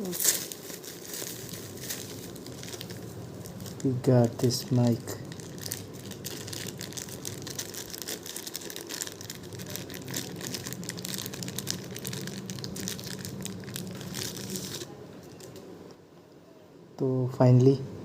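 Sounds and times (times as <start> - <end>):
plastic packaging crinkling: 0.0 - 15.6
plastic tearing: 0.0 - 15.6.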